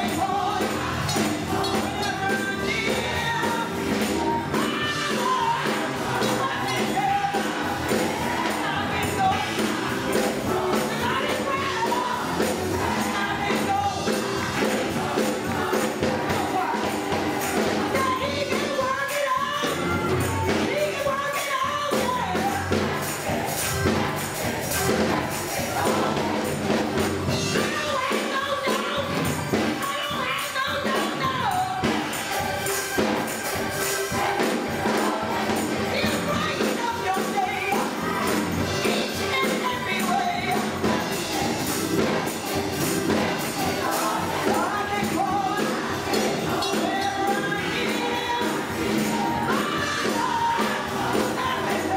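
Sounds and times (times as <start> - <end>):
band accompaniment: 0.0 - 51.9
gospel choir singing: 0.0 - 51.9
tambourine beat: 0.0 - 51.9.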